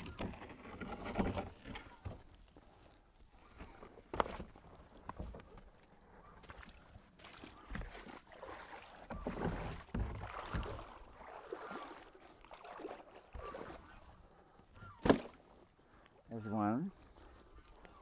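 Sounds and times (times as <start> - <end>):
pond water sloshing and splashing: 0.0 - 18.0.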